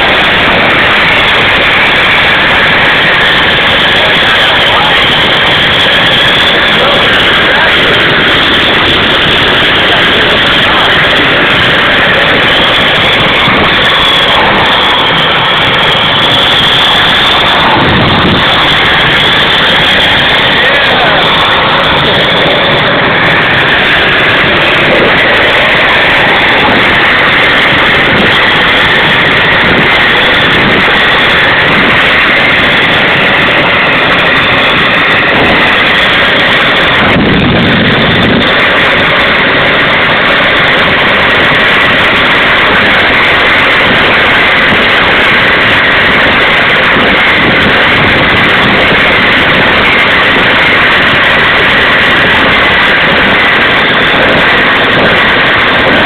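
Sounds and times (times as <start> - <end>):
gas turbine engine roaring: 0.0 - 56.0.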